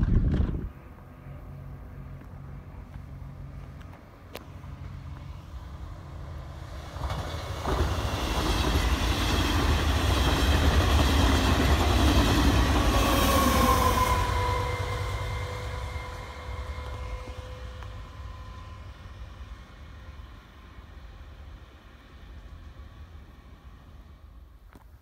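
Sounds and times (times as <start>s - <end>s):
train passing on rails: 0.0s - 25.0s.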